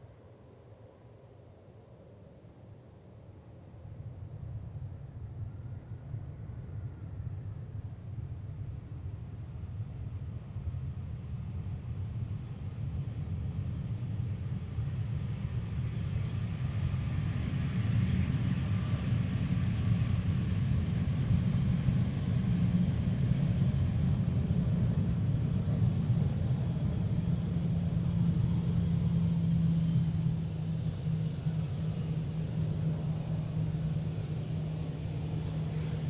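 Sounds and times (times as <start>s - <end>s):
faint jet engine whine: 0.0s - 36.0s
jet engines rumbling low: 0.0s - 36.0s.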